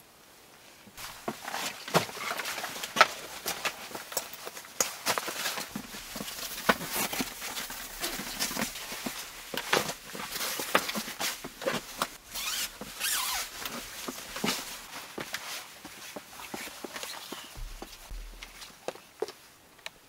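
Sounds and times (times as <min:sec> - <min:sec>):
foam mat rustling and crinkling: 0:01.0 - 0:19.4.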